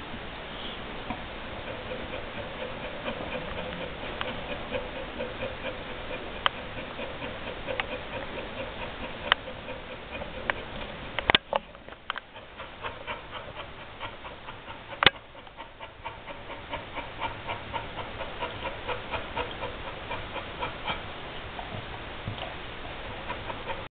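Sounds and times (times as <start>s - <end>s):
dog panting fast: 1.3s - 23.9s.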